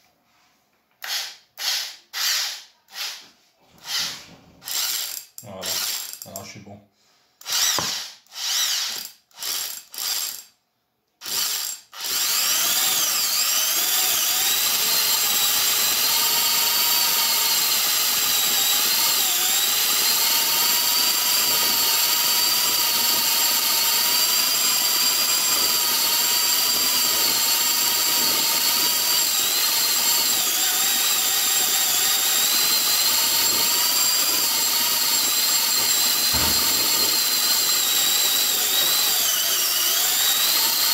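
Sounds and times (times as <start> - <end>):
electric drill whining: 1.0 - 6.3, 7.4 - 10.5, 11.2 - 40.9.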